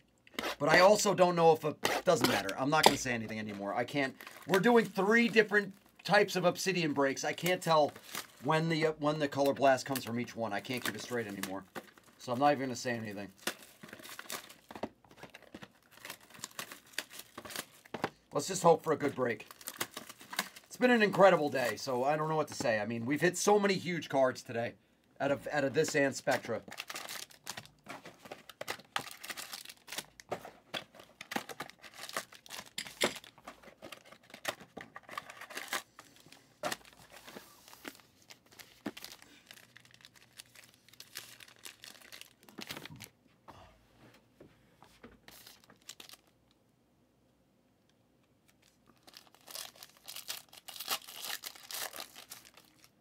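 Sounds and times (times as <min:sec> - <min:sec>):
wrappers crinkling and tearing: 0:00.3 - 0:21.9, 0:25.7 - 0:43.1, 0:45.3 - 0:46.4, 0:48.4 - 0:53.0.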